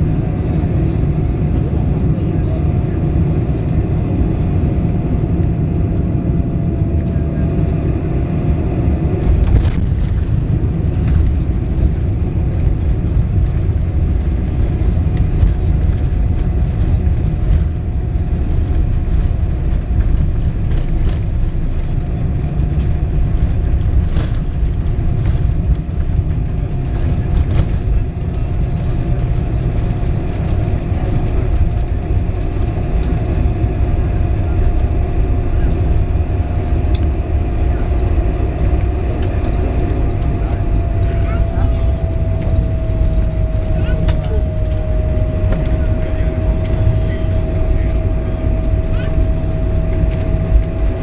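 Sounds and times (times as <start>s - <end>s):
jet cabin rumble: 0.0s - 51.0s.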